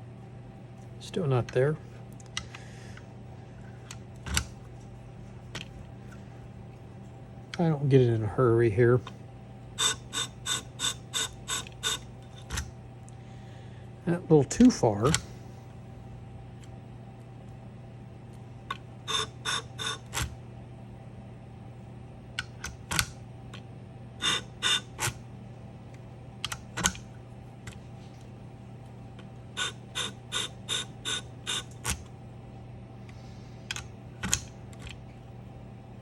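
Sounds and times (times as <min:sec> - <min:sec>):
motor hum: 0:00.0 - 0:36.0.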